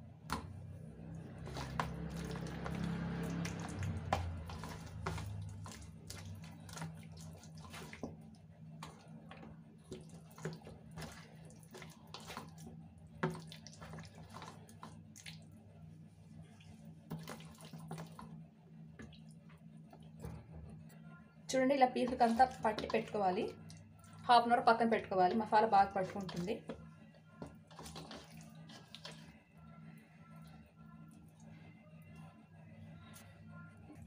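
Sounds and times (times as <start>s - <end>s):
wet squelches of marinade: 0.0s - 20.2s, 21.5s - 34.0s
low steady hum: 0.0s - 34.0s.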